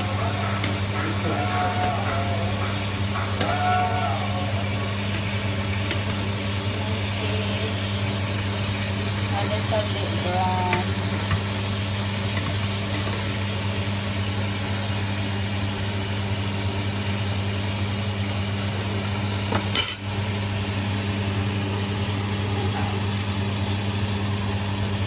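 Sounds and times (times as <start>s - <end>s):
fish sizzling in a frying pan: 0.0s - 25.0s.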